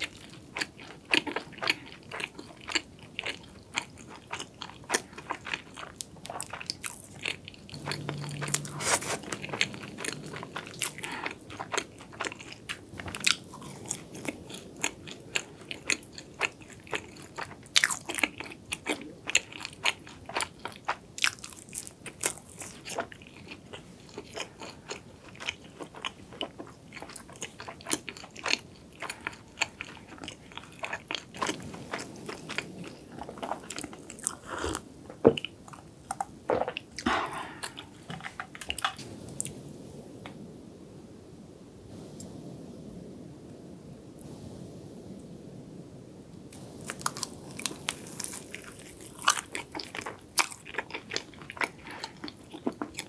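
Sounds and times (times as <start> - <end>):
person chewing crisp pastry: 0.0 - 39.5, 46.6 - 53.0.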